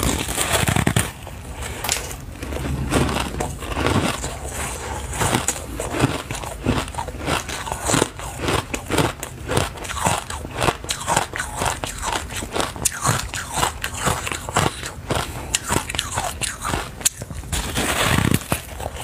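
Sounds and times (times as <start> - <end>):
crunchy biting and chewing: 0.0 - 19.0.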